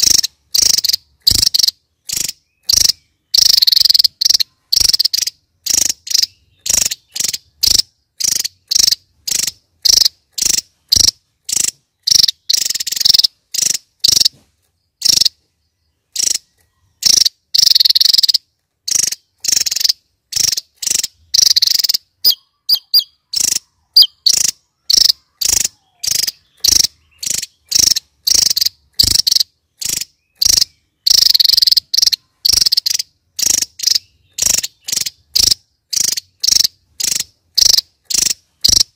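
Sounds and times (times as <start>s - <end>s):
bird singing high-pitched bursts: 0.0s - 38.9s.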